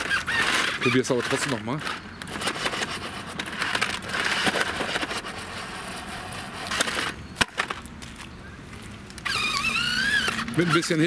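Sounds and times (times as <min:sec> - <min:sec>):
toy car wheels rolling on concrete: 0:00.0 - 0:07.8, 0:09.2 - 0:11.0.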